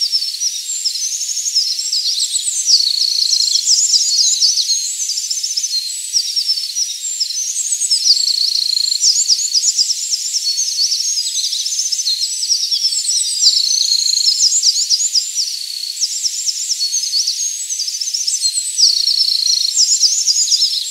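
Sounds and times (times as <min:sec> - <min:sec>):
wren singing: 0:00.0 - 0:20.9.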